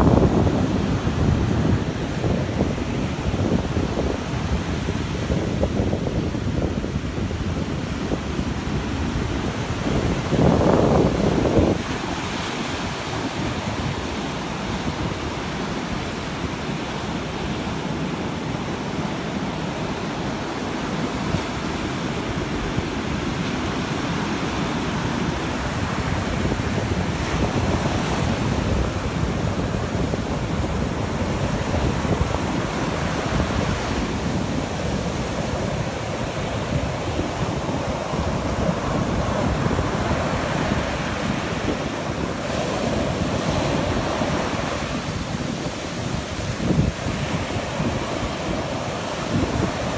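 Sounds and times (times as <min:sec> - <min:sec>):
ocean surf breaking on beach: 0:00.0 - 0:49.9.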